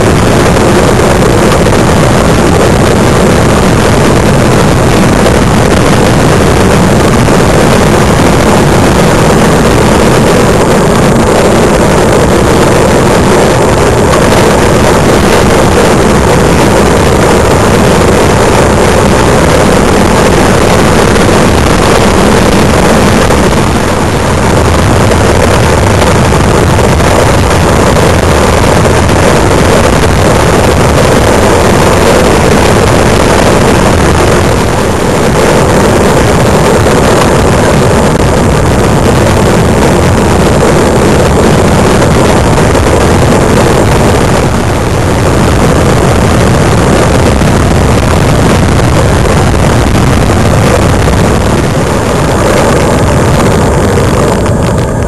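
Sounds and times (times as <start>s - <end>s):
road noise: 0.0s - 55.0s
wind rushing over microphone: 0.0s - 55.0s.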